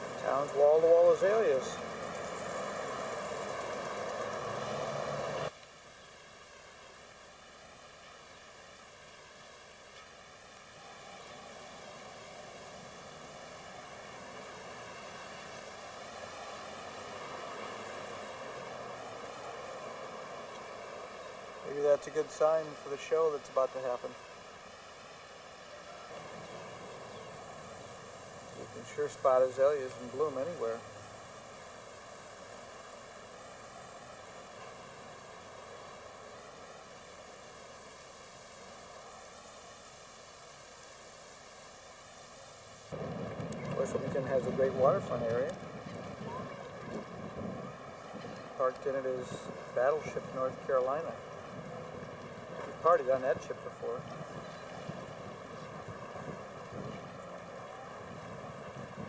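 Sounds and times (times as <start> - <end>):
faint wavering hum: 0.0 - 59.0
steady faint hiss: 0.0 - 59.0
steady rushing noise: 10.4 - 59.0.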